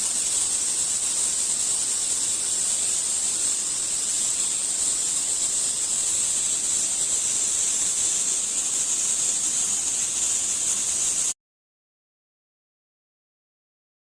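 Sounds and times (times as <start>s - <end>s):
high-pitched hiss: 0.0s - 11.4s.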